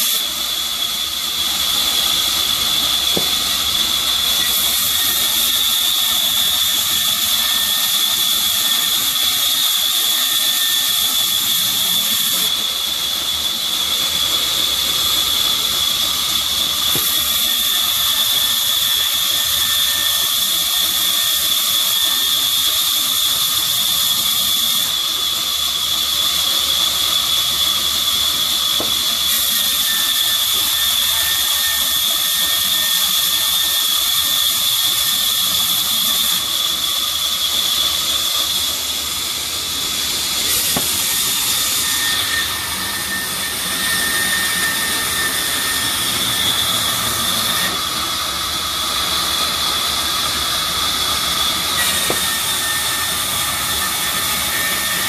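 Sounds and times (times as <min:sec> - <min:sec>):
band saw blade whine: 0:00.0 - 0:55.0
hiss of saw cutting wood: 0:00.0 - 0:55.0.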